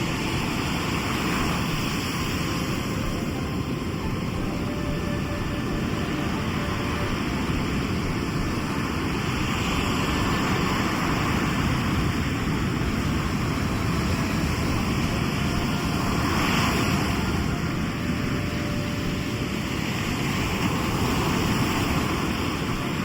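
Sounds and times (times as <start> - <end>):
sea waves washing in: 0.0 - 23.0.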